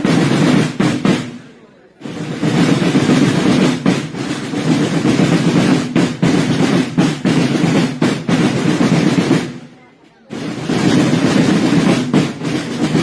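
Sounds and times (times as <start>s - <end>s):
drum roll: 0.0s - 13.0s.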